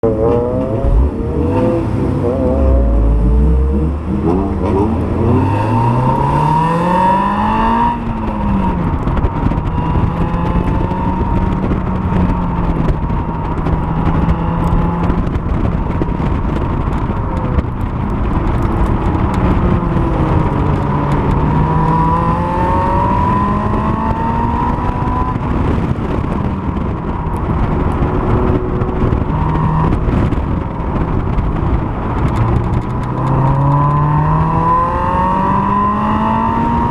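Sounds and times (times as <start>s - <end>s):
car engine revving: 0.0s - 15.9s, 18.1s - 36.9s.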